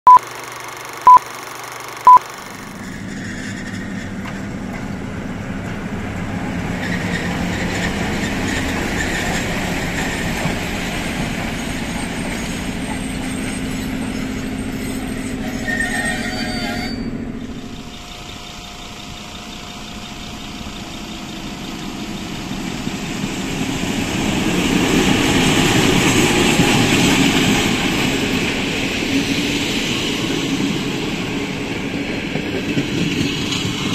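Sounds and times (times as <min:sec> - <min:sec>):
diesel locomotive engine running: 0:00.1 - 0:33.9
train wheels rolling: 0:02.8 - 0:33.9.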